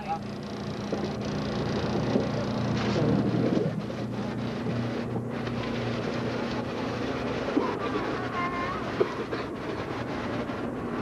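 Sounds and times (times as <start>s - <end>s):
diesel train engine idling: 0.0s - 11.0s
jumble of noise: 0.0s - 11.0s.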